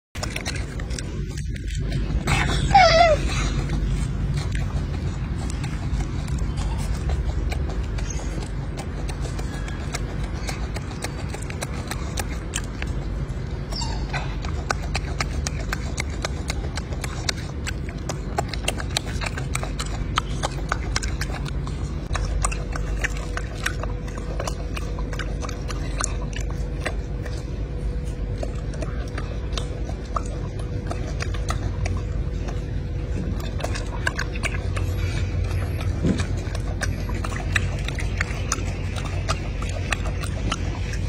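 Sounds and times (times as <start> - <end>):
monkey chewing: 0.1 - 41.0
faint steady hum: 0.2 - 41.0
steady low rumble: 0.2 - 41.0.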